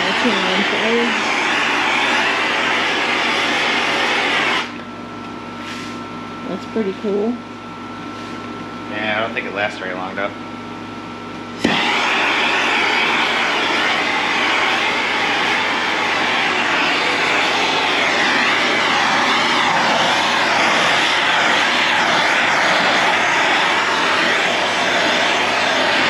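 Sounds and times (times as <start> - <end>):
blowtorch flame hissing: 0.0 - 4.8, 5.5 - 7.4, 11.4 - 26.0.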